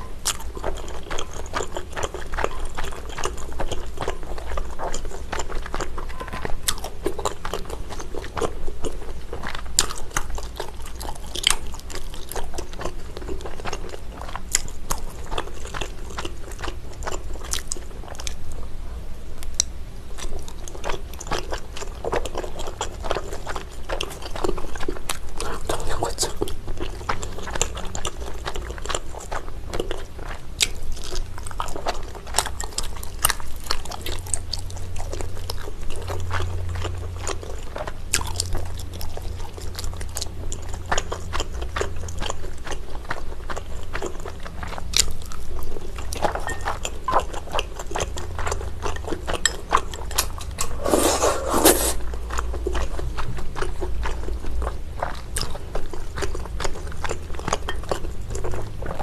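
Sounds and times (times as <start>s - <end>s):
chewing sticky food: 0.0s - 59.0s.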